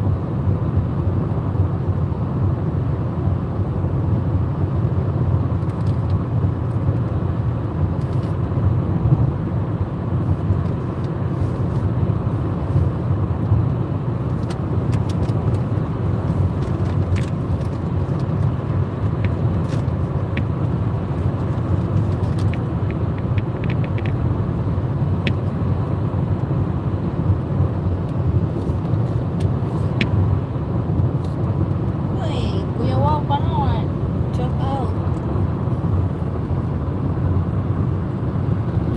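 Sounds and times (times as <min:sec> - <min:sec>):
car road noise rumble: 0:00.0 - 0:38.9.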